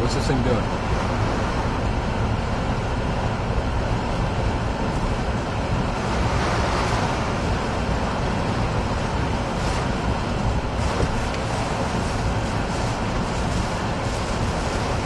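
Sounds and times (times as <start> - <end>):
wind and rain buffeting car: 0.0 - 15.0.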